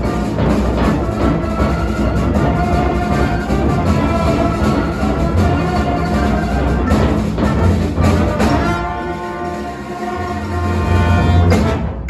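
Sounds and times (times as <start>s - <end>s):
symphony orchestra playing: 0.0s - 12.0s.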